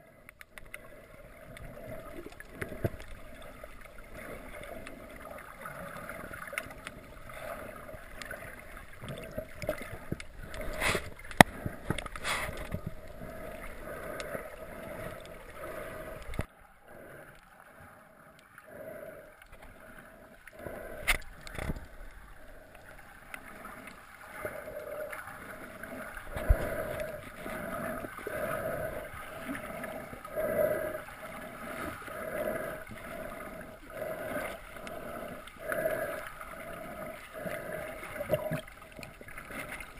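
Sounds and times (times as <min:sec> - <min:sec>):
underwater water noise: 0:00.0 - 0:39.9.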